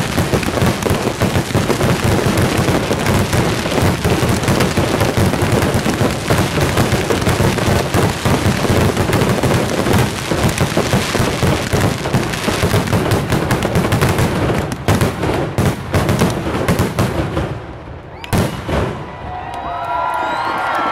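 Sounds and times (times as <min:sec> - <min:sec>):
firework bangs: 0:00.0 - 0:19.3.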